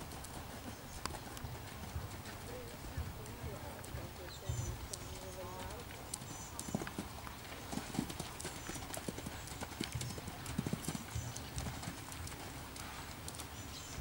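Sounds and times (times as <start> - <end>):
horse hoofbeats on sand: 0.0 - 14.0.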